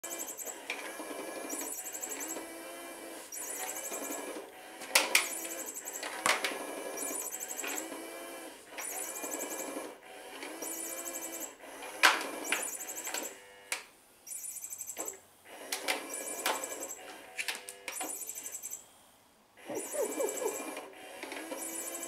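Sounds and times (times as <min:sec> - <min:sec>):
toy motor whirring: 0:00.0 - 0:13.4, 0:14.3 - 0:18.8, 0:19.6 - 0:22.0.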